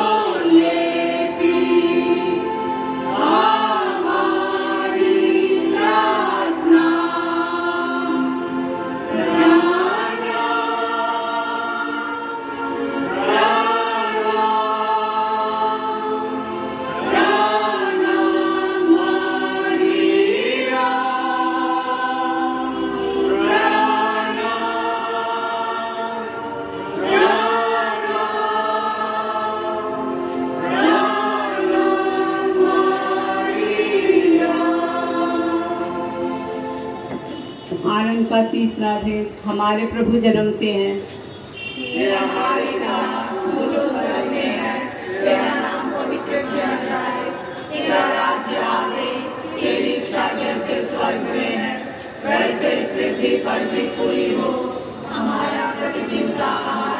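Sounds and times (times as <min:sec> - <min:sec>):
group singing a hymn: 0:00.0 - 0:37.6, 0:41.6 - 0:56.9.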